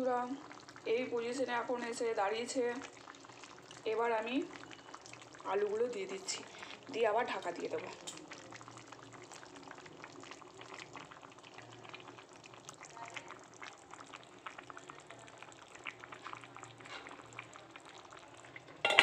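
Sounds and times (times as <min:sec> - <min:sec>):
curry simmering in a pan: 0:00.0 - 0:19.0.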